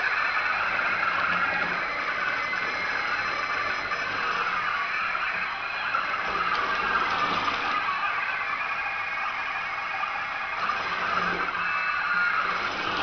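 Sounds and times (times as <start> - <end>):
robot motors whirring: 0.0 - 13.0.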